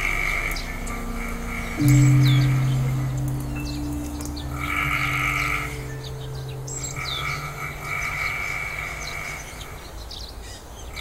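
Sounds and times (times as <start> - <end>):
ambient music drone: 0.0 - 10.1
forest birds chirping: 0.0 - 11.0.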